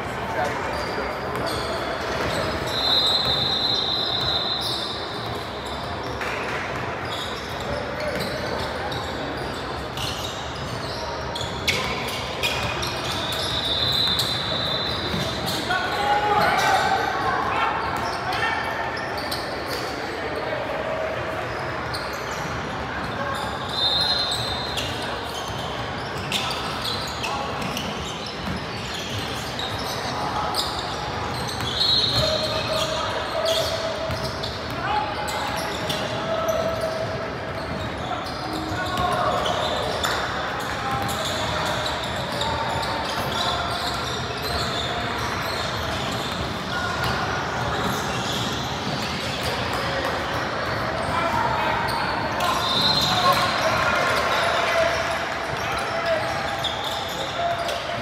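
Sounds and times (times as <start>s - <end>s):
murmur of voices echoing: 0.0s - 58.0s.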